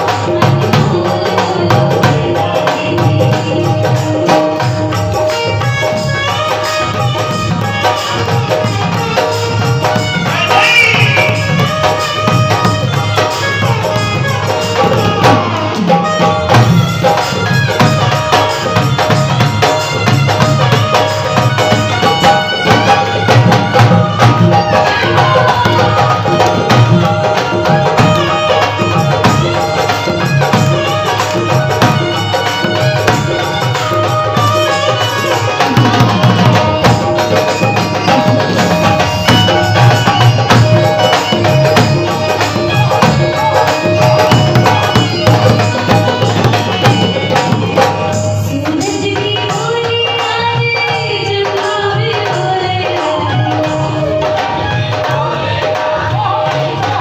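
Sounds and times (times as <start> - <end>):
devotional instrumental music: 0.0 - 57.0
hand percussion beat: 0.0 - 57.0.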